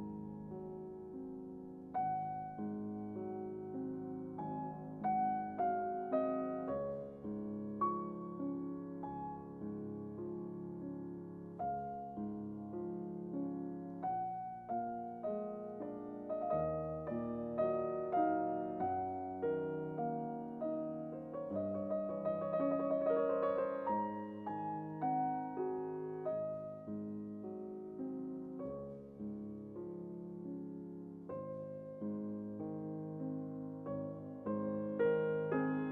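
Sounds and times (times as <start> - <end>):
slow piano music: 0.0 - 35.9.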